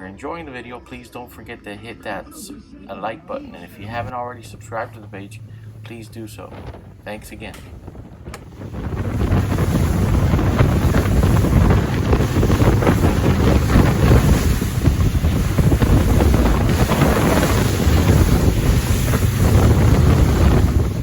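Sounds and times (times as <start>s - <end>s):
water noise: 0.0s - 21.0s
wind buffeting microphone: 3.9s - 21.0s.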